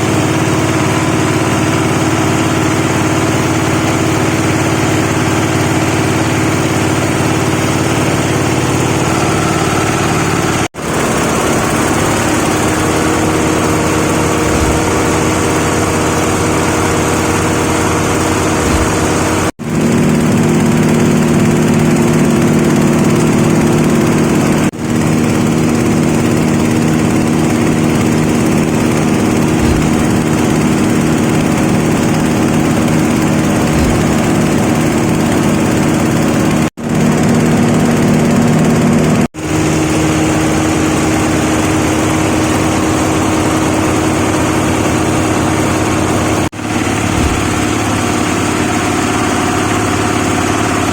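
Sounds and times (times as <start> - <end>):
grinding machine humming: 0.0 - 50.9.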